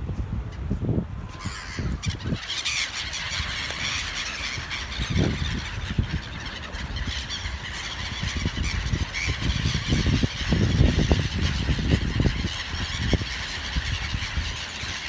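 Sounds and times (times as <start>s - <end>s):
gulls squealing: 1.3s - 15.0s.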